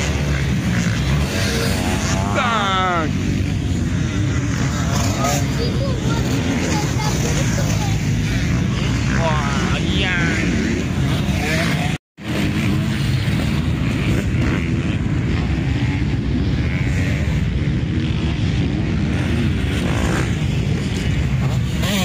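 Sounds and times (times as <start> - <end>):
motocross bike engines running: 0.0 - 22.0.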